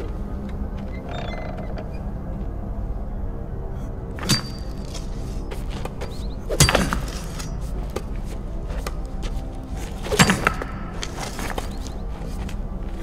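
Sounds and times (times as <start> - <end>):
low steady drone: 0.0 - 13.0
soft music: 0.0 - 13.0.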